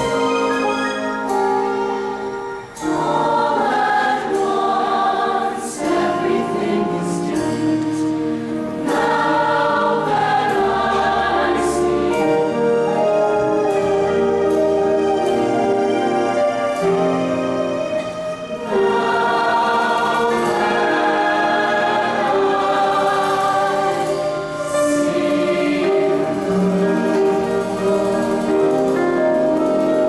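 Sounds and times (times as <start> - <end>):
choir singing held chords: 0.0 - 30.0.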